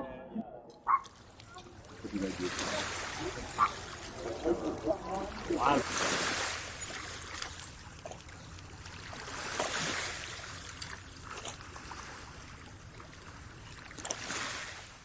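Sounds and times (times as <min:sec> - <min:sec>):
water splashing and trickling: 0:00.8 - 0:15.0.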